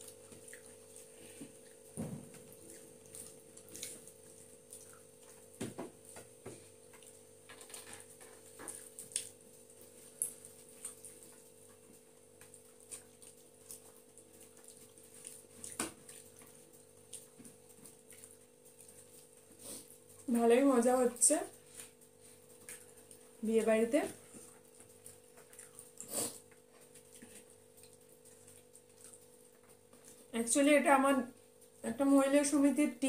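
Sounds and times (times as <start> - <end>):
wet eating smacks and clicks: 0.0 - 20.3, 21.8 - 23.4, 24.0 - 30.3
faint steady hum: 0.0 - 33.0.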